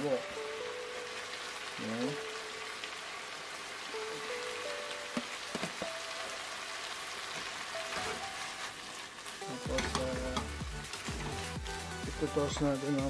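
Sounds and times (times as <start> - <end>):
background music: 0.0 - 7.0, 7.6 - 13.0
food sizzling in a wok: 0.0 - 13.0.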